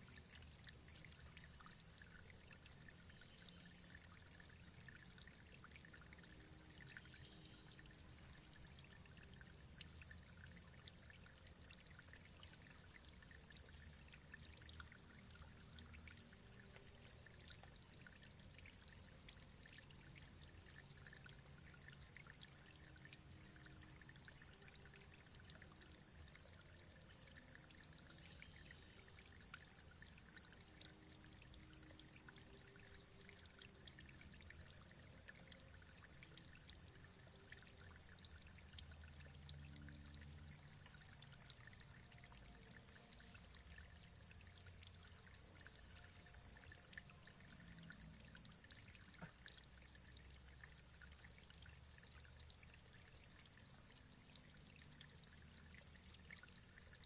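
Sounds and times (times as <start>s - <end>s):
faint running water: 0.0s - 57.0s
small drips: 0.0s - 57.0s.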